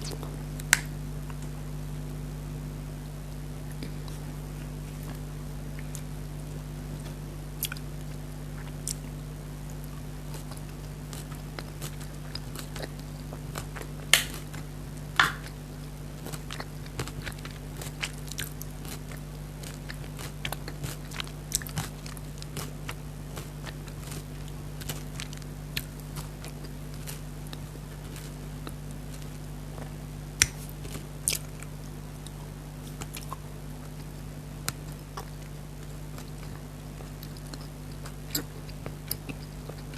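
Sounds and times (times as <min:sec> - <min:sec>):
steady low hum: 0:00.0 - 0:39.9
chewing with wet mouth clicks: 0:07.6 - 0:39.9.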